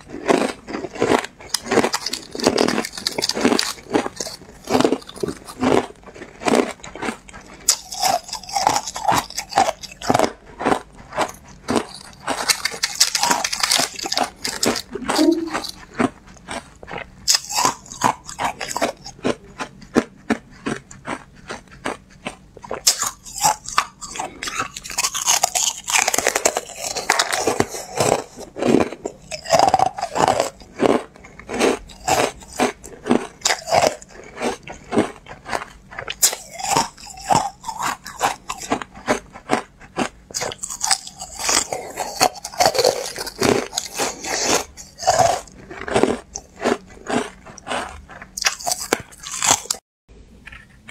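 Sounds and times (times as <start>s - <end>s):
ice being chewed: 0.0s - 49.8s, 50.4s - 50.9s.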